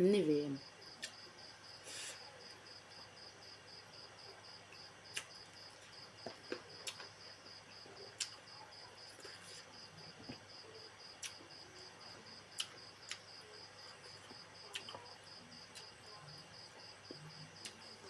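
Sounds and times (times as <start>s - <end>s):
cricket chirping: 0.2s - 18.0s.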